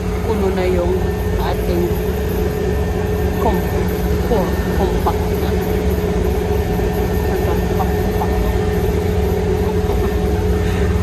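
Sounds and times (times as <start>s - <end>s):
farm machinery engine drone: 0.0s - 11.0s
steady whine: 0.0s - 11.0s.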